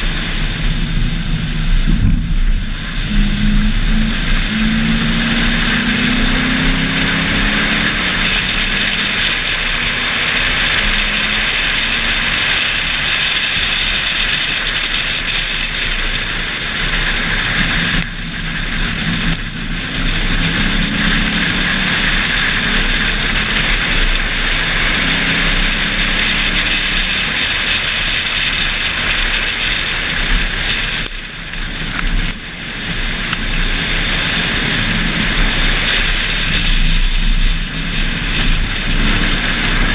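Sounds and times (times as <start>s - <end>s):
car engine at speed: 0.0s - 39.9s
wind rush on microphone: 0.0s - 39.9s.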